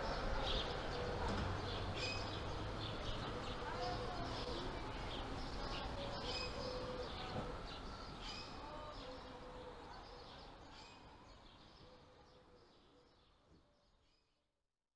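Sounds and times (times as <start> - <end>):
birds chirping: 0.0 - 13.4.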